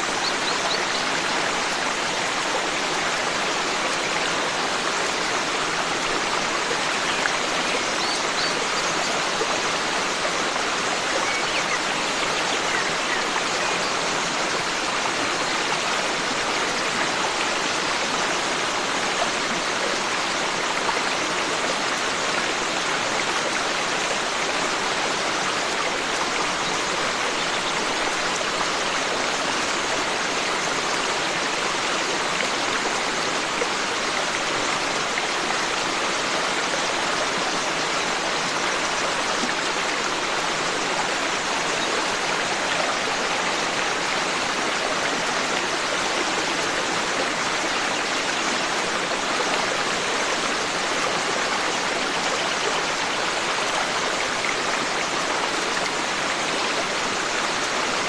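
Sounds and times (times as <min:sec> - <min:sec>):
stream flowing water: 0:00.0 - 0:58.0.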